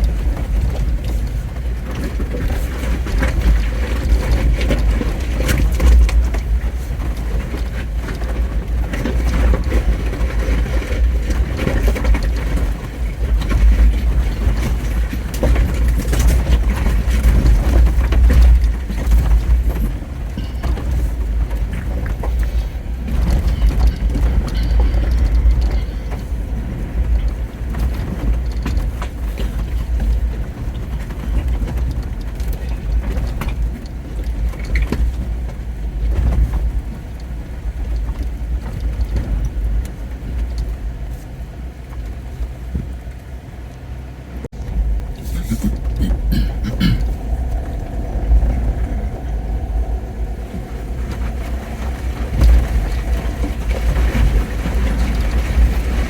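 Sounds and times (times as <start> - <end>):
car engine and road noise rumble: 0.0 - 56.0.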